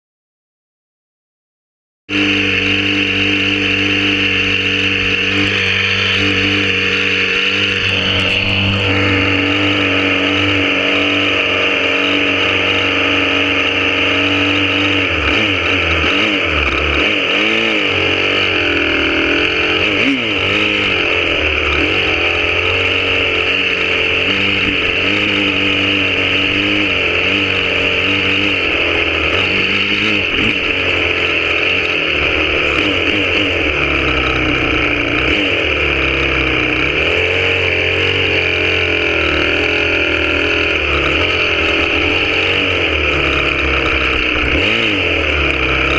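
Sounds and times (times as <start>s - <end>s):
dirt bike engine revving: 2.1s - 45.9s.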